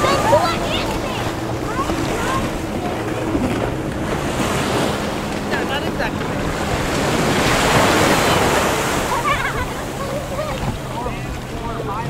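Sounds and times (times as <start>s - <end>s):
sea surf washing and breaking: 0.0s - 12.0s
wind buffeting microphone: 0.0s - 12.0s.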